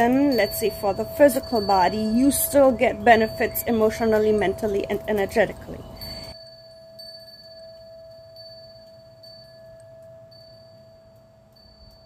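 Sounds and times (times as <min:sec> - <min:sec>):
chime-like ringing tones: 0:00.0 - 0:12.0.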